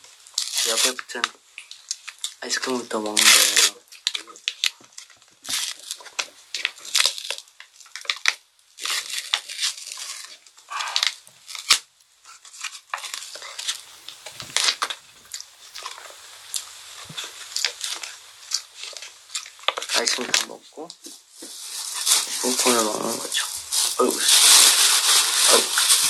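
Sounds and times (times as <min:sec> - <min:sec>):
wrapper crinkling and tearing: 0:00.0 - 0:26.0.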